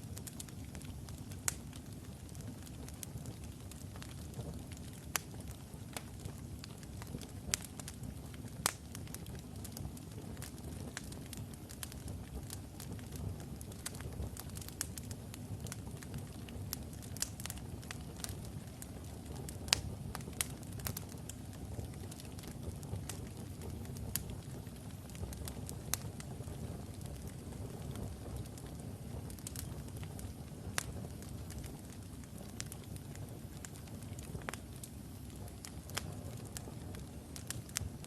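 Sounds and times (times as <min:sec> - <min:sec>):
burning wood crackling and popping: 0:00.0 - 0:38.0
flames rumbling in fireplace: 0:00.0 - 0:38.0.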